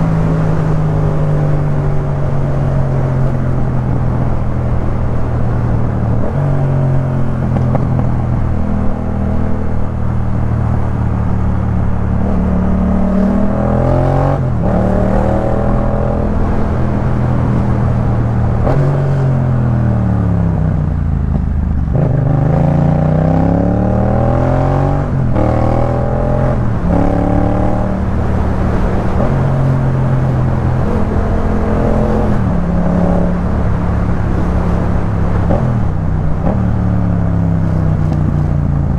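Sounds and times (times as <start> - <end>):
motorcycle engine revving while riding: 0.0 - 38.9.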